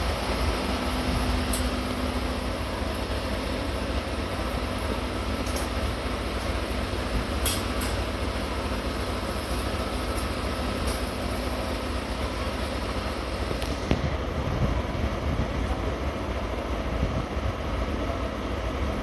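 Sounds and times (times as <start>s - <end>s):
diesel locomotive idling: 0.0s - 19.0s.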